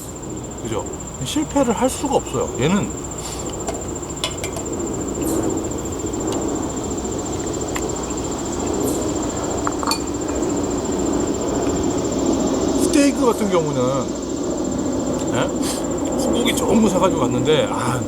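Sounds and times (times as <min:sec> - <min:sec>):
crickets trilling: 0:00.0 - 0:18.0
low background rumble: 0:00.0 - 0:18.0.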